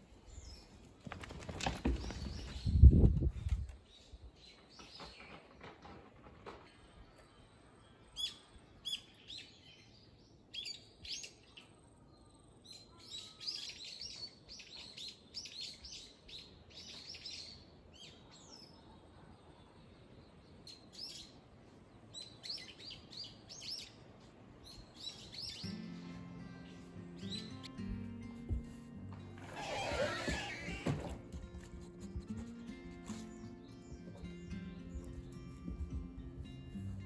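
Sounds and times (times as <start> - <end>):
faint outdoor background: 0.0 - 37.0
songbirds chirping and twittering: 0.0 - 37.0.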